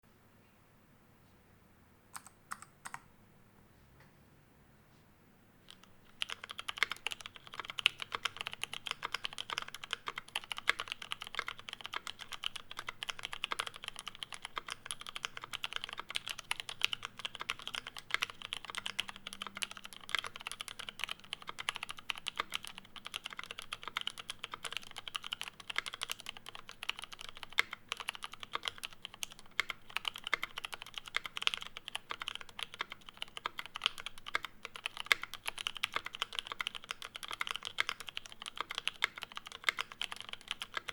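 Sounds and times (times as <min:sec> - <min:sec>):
mechanical keyboard typing: 0:02.1 - 0:03.1, 0:05.7 - 0:40.9.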